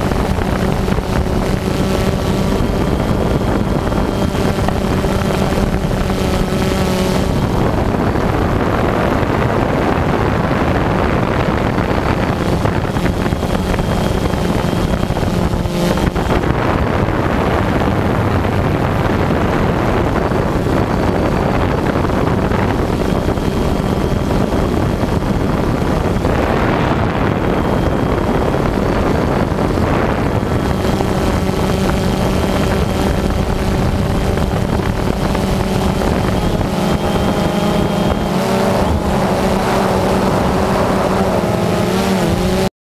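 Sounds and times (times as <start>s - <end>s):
drone motors and propellers buzzing: 0.0s - 42.7s
wind rushing over microphone: 0.0s - 42.7s.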